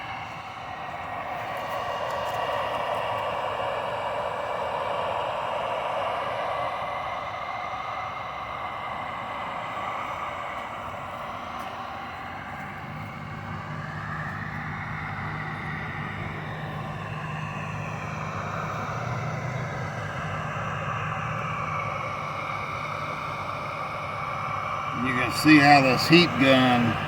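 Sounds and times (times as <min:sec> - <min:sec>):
heat gun fan blowing: 0:00.0 - 0:27.0.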